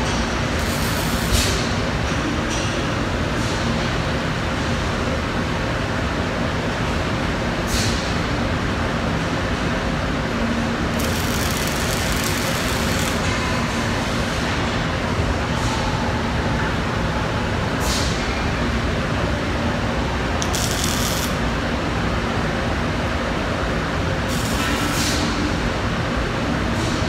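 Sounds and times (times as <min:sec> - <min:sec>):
industrial shop rumble: 0:00.0 - 0:27.0.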